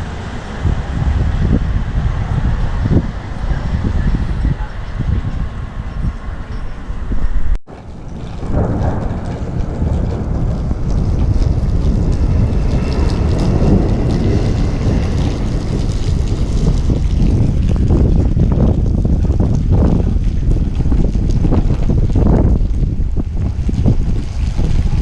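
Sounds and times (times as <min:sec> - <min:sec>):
heavy rain: 0:00.0 - 0:06.0, 0:07.7 - 0:25.0
strong wind on microphone: 0:00.0 - 0:25.0.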